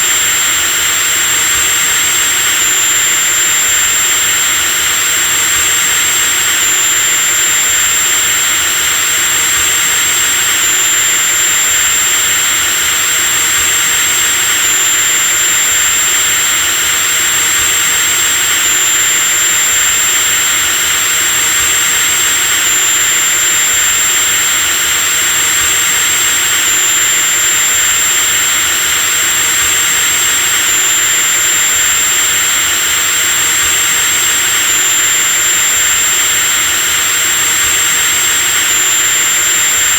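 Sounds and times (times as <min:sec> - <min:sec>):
electric drill running: 0:00.0 - 0:39.9.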